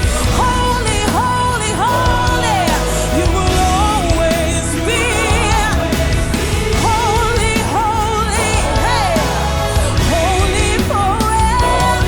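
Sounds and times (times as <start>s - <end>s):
worship band music: 0.0s - 12.0s.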